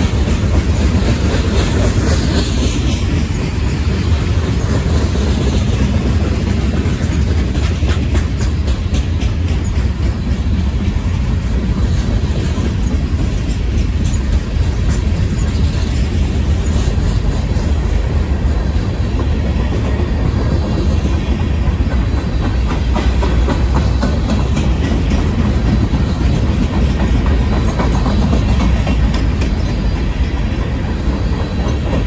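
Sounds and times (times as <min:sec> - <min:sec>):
steel wheels rumbling on rail: 0:00.0 - 0:32.0
wheels clicking over rail joints: 0:00.0 - 0:32.0.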